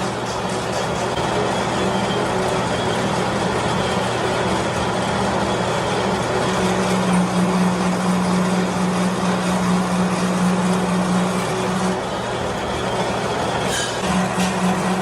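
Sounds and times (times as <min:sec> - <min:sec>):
machinery humming loudly: 0:00.0 - 0:15.0.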